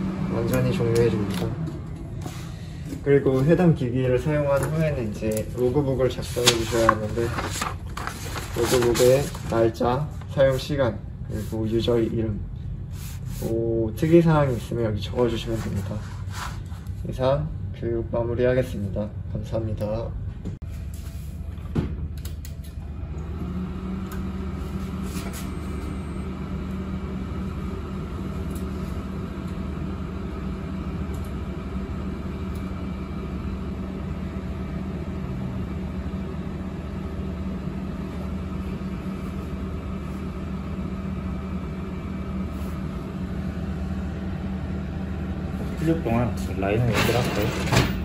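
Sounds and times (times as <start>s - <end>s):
cooling fans humming: 0.0s - 48.0s.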